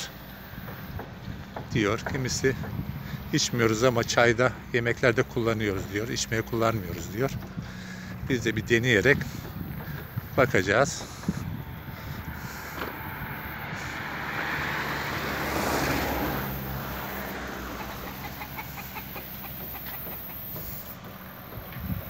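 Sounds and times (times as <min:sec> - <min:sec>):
motor vehicle passing by: 0:00.0 - 0:22.0.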